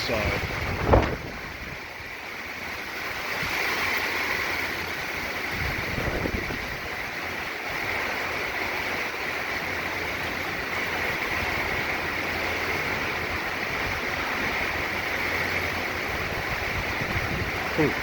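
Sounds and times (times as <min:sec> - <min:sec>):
heavy rain: 0:00.0 - 0:18.0
strong wind: 0:00.0 - 0:18.0.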